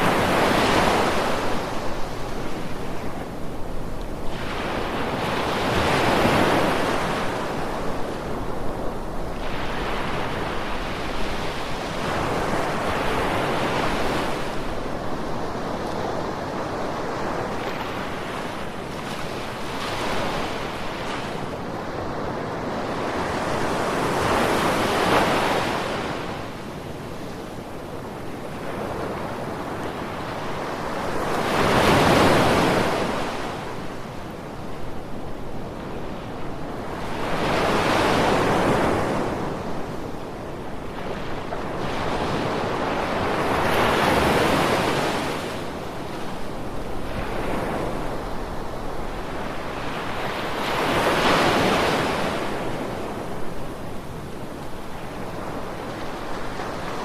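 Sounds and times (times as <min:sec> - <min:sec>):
ocean waves crashing on shore: 0:00.0 - 0:57.0
wind: 0:00.0 - 0:57.0.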